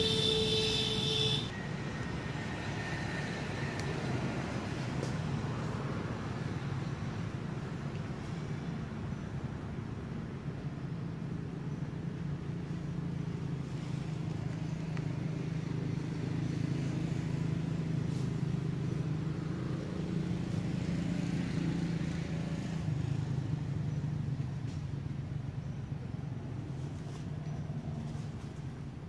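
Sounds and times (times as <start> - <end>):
engine humming steadily: 0.0 - 29.0.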